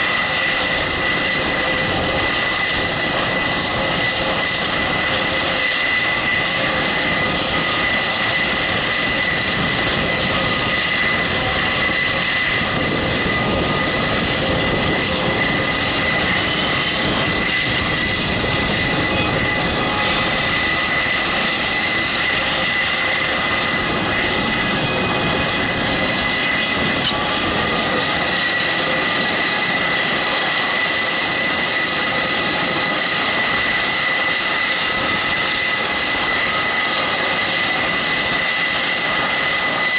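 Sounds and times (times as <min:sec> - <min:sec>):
high turbine whine: 0:00.0 - 0:39.9
turboprop engines running: 0:00.0 - 0:39.9.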